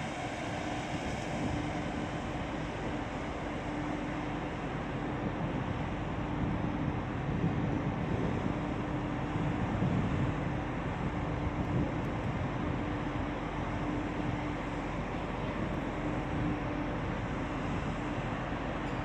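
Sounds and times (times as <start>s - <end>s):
machinery low hum: 0.0s - 19.0s.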